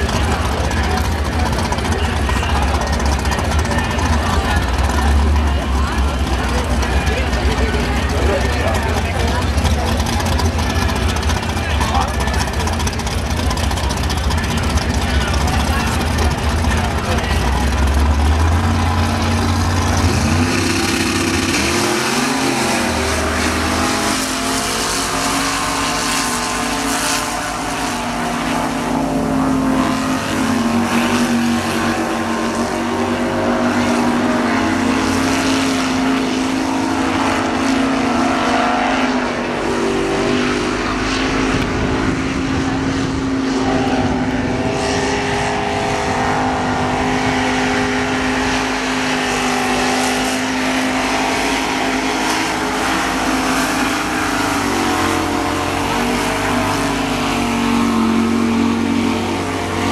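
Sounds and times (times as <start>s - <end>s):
racing buggy engines revving: 0.0s - 59.9s.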